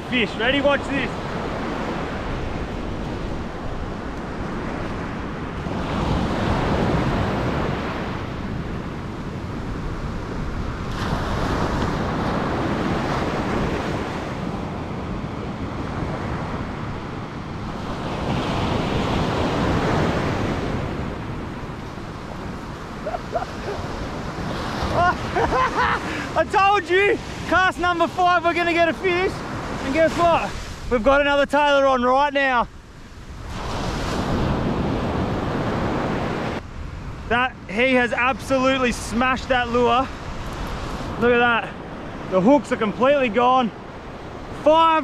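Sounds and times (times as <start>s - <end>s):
wind on microphone: 0.0s - 26.4s, 32.7s - 42.4s
ocean surf breaking: 0.0s - 45.0s.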